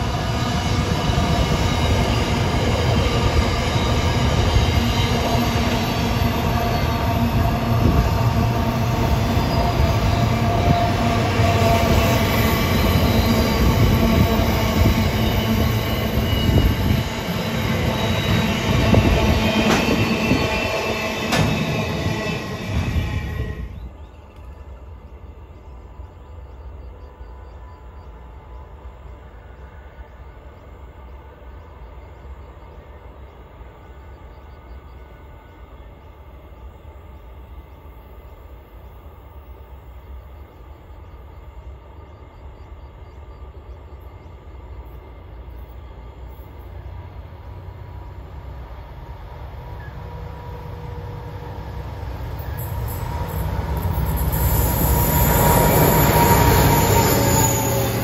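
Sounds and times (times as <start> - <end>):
freight train engine and wheel rumble: 0.0 - 58.0.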